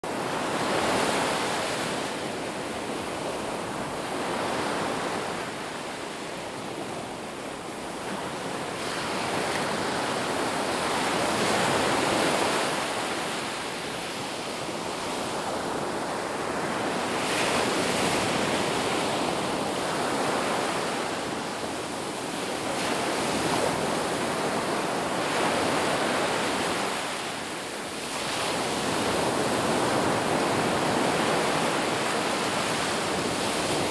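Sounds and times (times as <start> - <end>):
ocean waves breaking on beach: 0.0 - 33.9.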